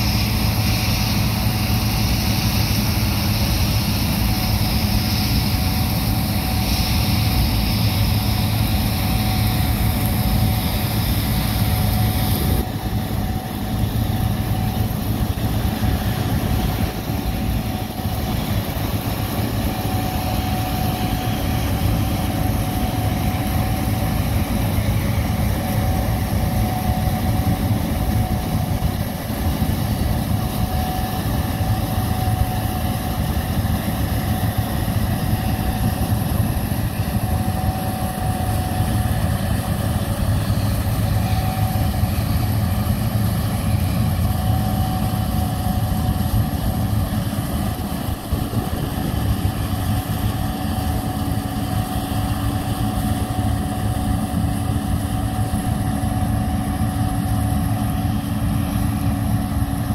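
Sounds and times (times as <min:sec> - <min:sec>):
combine harvester engine drone: 0:00.0 - 0:59.9
faint steady whine: 0:00.0 - 0:59.9.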